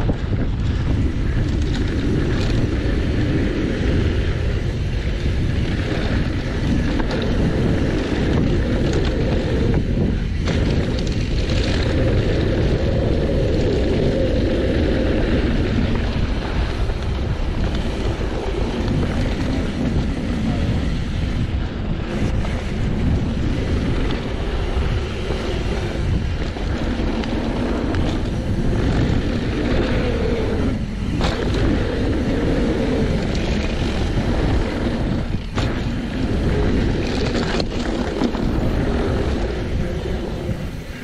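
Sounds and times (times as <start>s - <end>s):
bike tyres rolling on dirt: 0.0s - 41.0s
wind on microphone: 0.0s - 41.0s.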